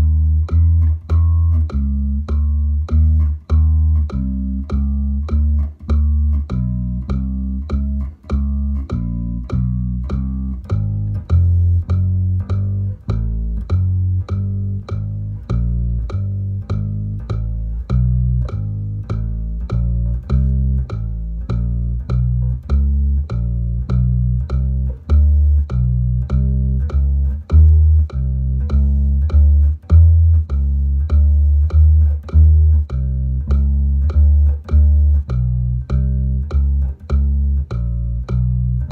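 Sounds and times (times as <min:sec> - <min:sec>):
electric bass plucked notes: 0:00.0 - 0:38.9.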